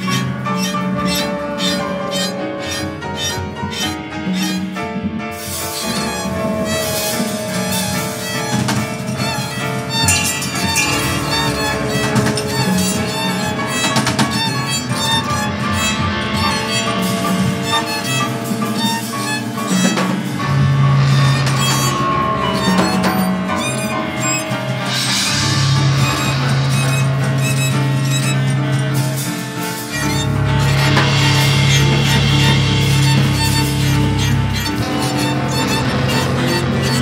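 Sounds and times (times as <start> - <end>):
bowed violin: 0.0 - 37.0
drum kit with cymbals: 0.0 - 37.0
upright piano: 0.0 - 37.0.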